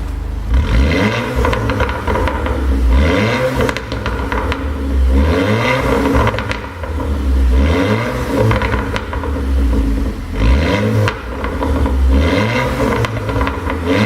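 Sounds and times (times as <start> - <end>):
car engine revving: 0.0 - 14.0
exhaust pops and crackles: 0.0 - 14.0.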